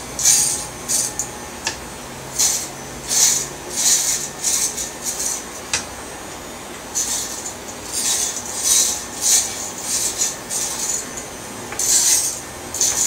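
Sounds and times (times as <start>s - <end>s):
faint clipper motor hum: 0.0s - 13.0s
hair clippers cutting hair: 0.0s - 13.0s.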